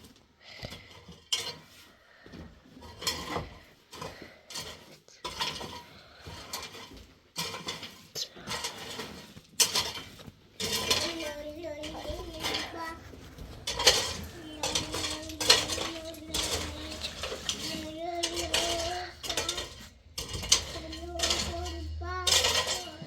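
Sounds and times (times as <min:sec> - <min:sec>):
metal dishes clattering: 0:02.8 - 0:23.0.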